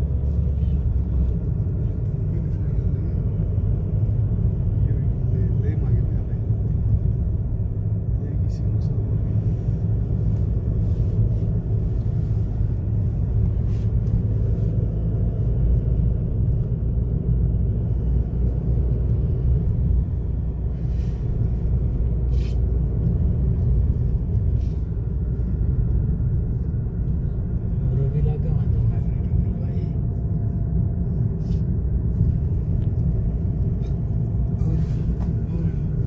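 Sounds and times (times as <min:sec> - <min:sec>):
road and engine rumble in car cabin: 0:00.0 - 0:36.0.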